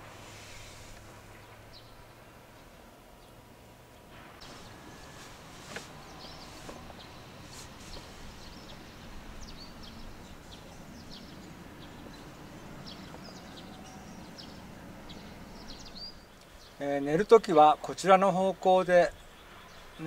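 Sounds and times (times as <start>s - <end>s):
small birds chirping: 0.4s - 20.0s.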